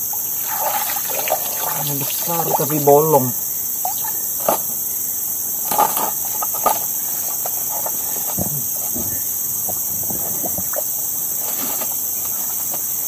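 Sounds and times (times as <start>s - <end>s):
high-pitched insect chorus: 0.0s - 13.0s
rustling leaves: 0.0s - 13.0s.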